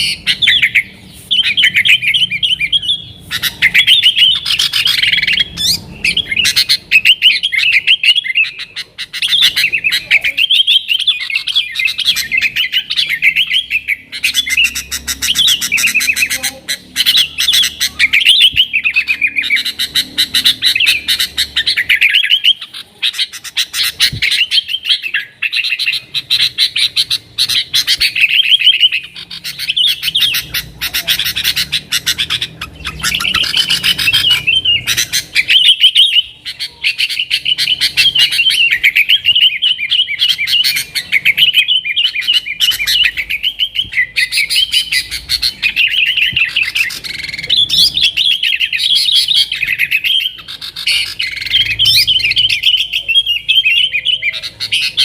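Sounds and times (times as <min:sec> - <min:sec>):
bulbul singing chattering phrases: 0:00.0 - 0:55.0.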